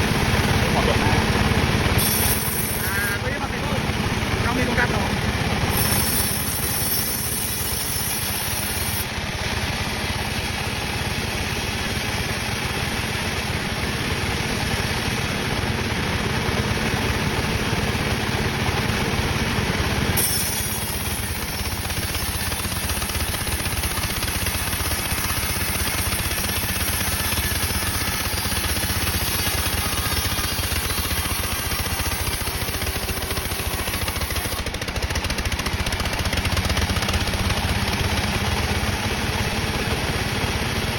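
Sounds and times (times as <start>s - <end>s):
sawmill running: 0.0s - 40.9s.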